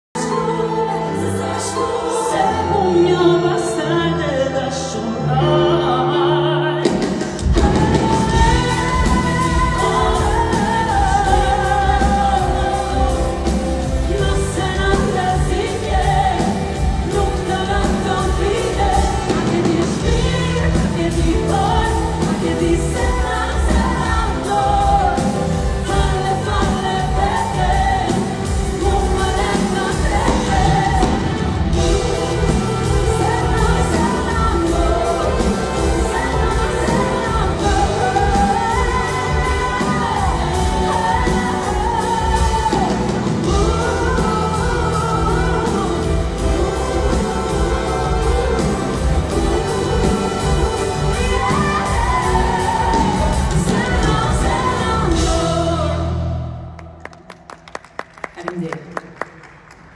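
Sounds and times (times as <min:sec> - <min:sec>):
pop band music: 0:00.0 - 0:59.9
woman singing into a microphone: 0:00.2 - 0:56.6.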